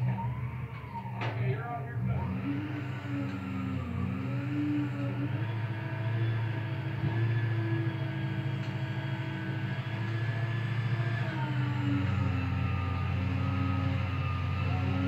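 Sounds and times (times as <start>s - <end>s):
hydraulics humming: 0.0s - 15.0s
truck engine running: 0.0s - 15.0s.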